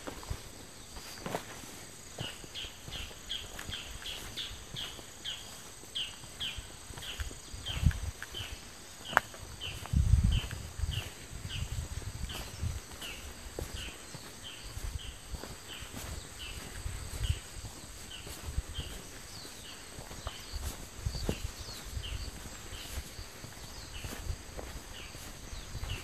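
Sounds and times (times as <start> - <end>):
footsteps on forest trail: 0.0 - 26.0.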